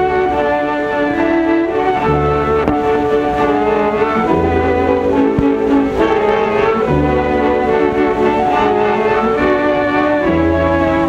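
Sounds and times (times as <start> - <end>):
slow orchestral string music: 0.0 - 11.0.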